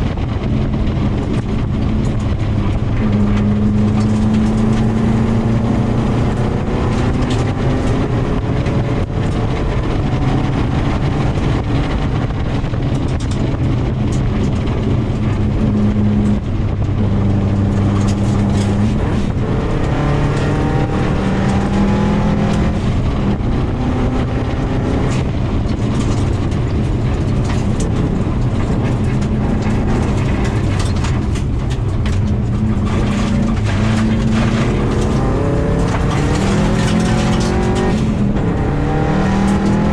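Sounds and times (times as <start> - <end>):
car engine revving: 0.0 - 39.9
gravel striking car: 0.0 - 39.9.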